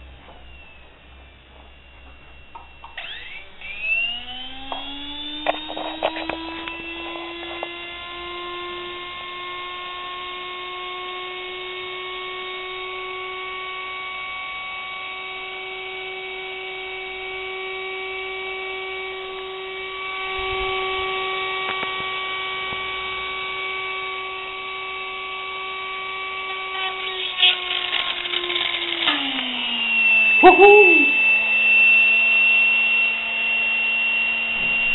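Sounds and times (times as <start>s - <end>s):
electric motor whining: 0.0s - 34.9s.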